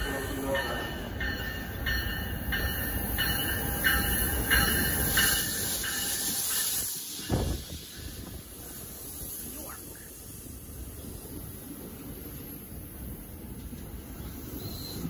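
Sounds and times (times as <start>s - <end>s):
train rumble and wheel noise: 0.0s - 15.0s.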